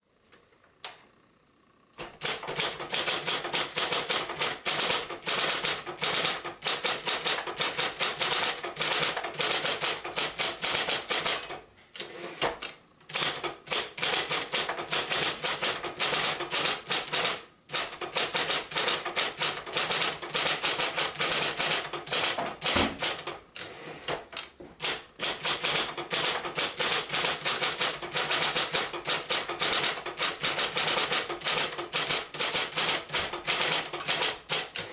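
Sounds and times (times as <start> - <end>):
electric typewriter typing fast: 2.0 - 34.9.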